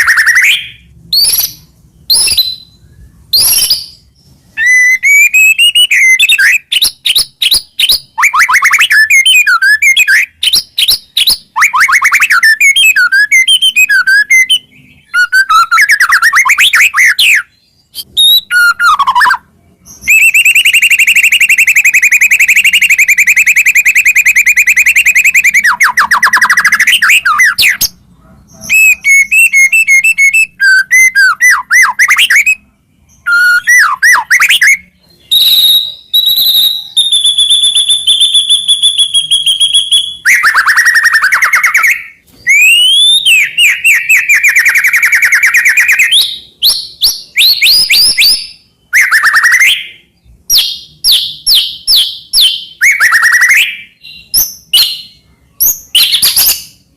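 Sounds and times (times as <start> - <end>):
songbird singing varied song: 0.0 - 56.8.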